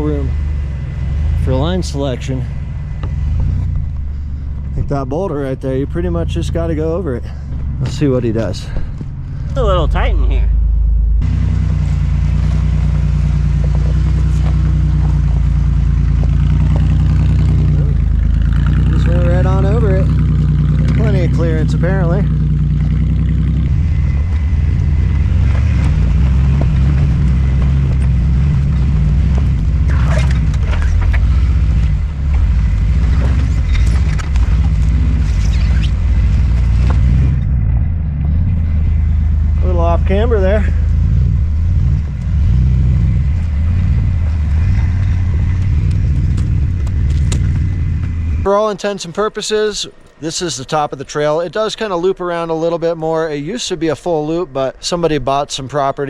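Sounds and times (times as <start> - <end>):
off-road vehicle engine at low revs: 0.0 - 56.0.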